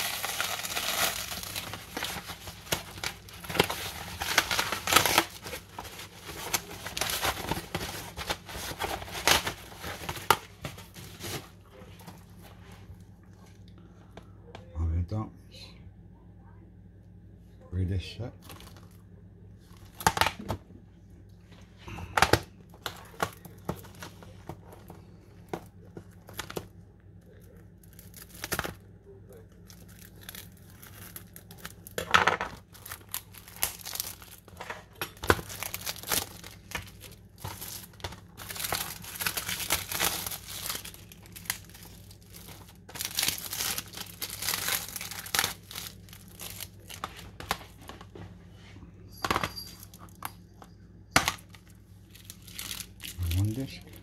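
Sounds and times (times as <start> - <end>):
plastic wrap crinkling: 0.0 - 12.6, 18.4 - 20.6, 21.9 - 48.2, 51.2 - 54.0.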